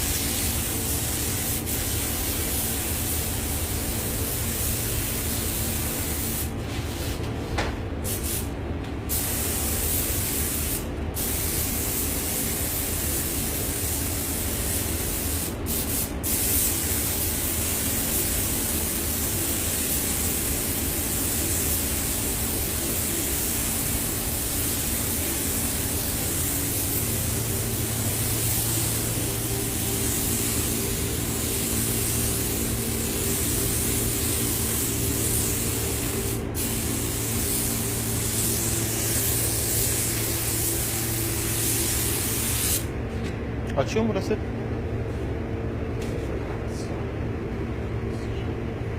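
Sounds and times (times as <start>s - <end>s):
paint spray gun hissing: 0.0s - 6.5s, 9.1s - 42.9s
steady low hum: 0.0s - 48.9s.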